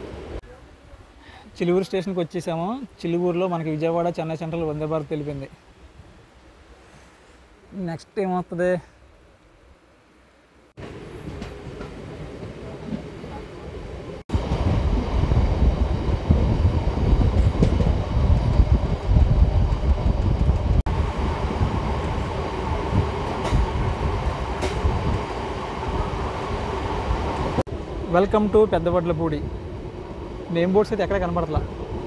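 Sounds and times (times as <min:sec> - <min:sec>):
electric train rumbling on track: 0:00.0 - 0:06.8, 0:09.8 - 0:32.0.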